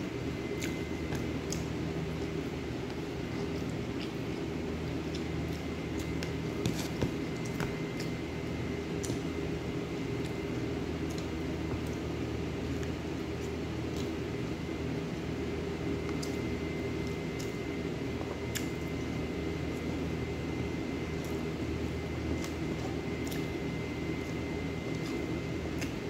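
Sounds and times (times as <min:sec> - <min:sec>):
appliance humming: 0:00.0 - 0:26.0
soft clicks and squishes of eating: 0:00.4 - 0:14.9, 0:15.9 - 0:26.0.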